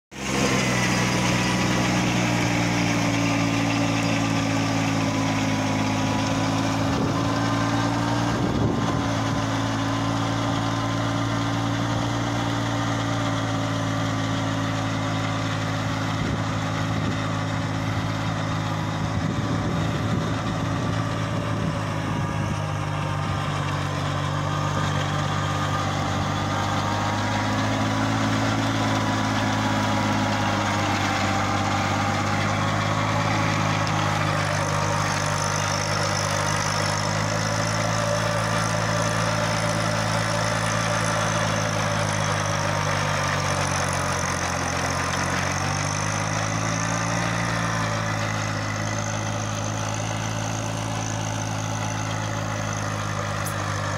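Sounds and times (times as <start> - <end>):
tractor engine running: 0.1 - 53.9.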